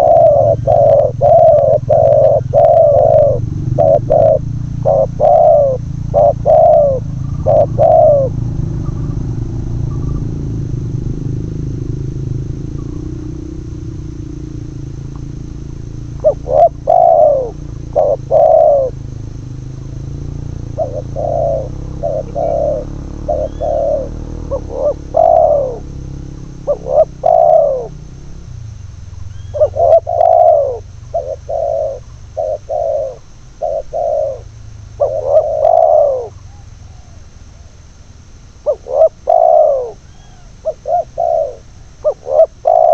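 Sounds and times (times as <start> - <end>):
doves cooing: 0.0 - 42.9
low steady rumble: 0.0 - 42.9.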